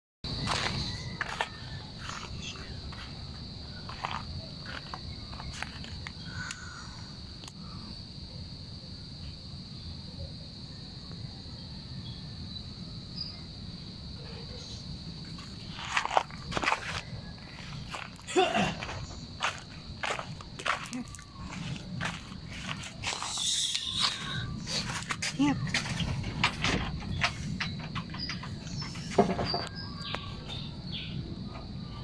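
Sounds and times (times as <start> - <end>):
insects droning: 0.2 - 32.0.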